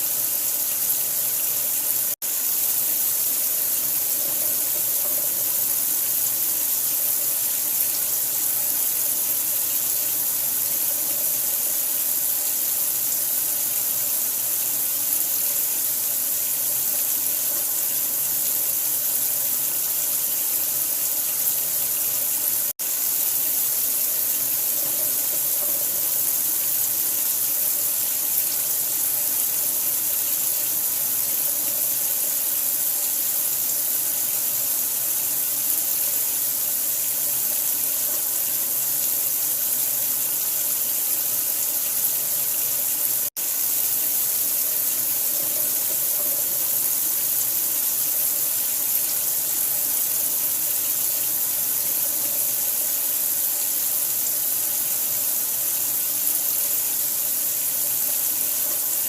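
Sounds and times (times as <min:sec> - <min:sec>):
water running from tap: 0:00.0 - 0:59.0.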